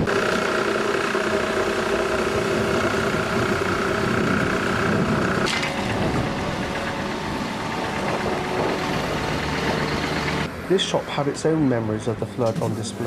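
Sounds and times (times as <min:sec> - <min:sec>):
engine running steadily: 0:00.0 - 0:10.5.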